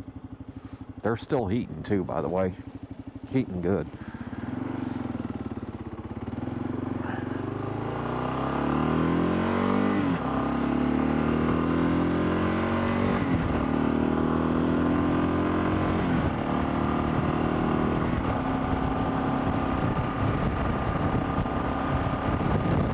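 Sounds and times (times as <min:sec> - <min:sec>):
motorcycle engine shifting gears: 0:00.2 - 0:22.9.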